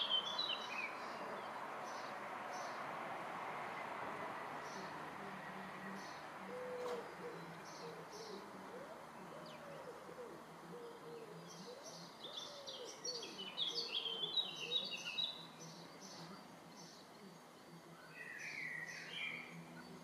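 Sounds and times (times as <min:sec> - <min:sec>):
birds singing: 0:00.0 - 0:03.0, 0:03.7 - 0:20.0.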